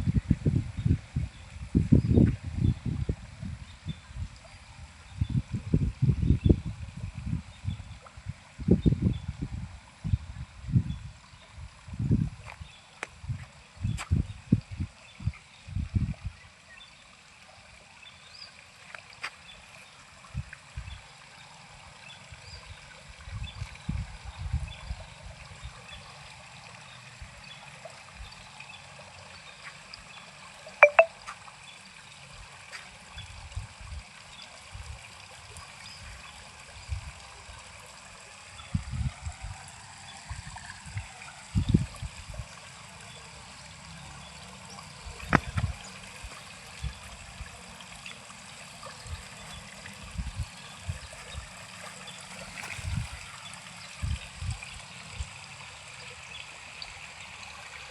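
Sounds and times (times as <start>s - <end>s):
water trickling: 0.4s - 57.9s.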